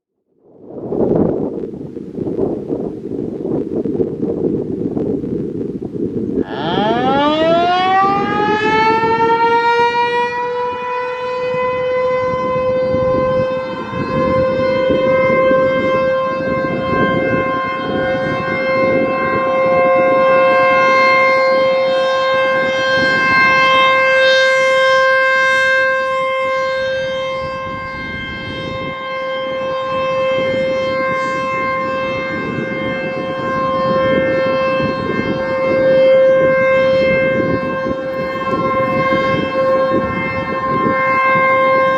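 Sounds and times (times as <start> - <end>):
warning siren wailing: 0.4 - 41.9.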